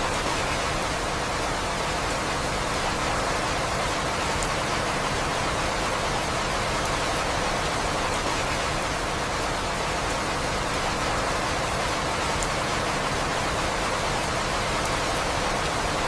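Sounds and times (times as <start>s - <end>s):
dense rain falling: 0.0s - 16.0s.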